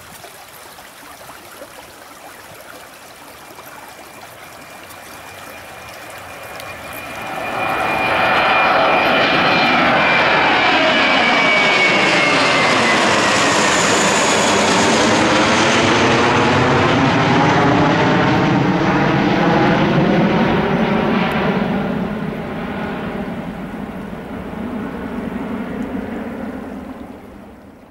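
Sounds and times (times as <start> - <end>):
jet engines roaring at takeoff: 4.3 - 27.8
high engine whine: 4.3 - 27.9.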